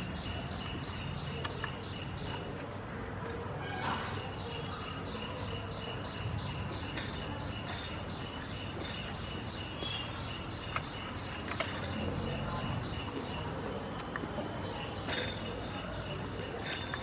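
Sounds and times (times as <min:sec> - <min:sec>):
bird chirping: 0:00.0 - 0:02.6, 0:03.9 - 0:17.0.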